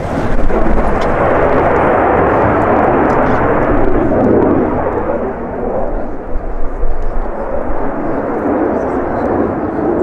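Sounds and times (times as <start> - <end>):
loud jet roar: 0.0 - 10.0.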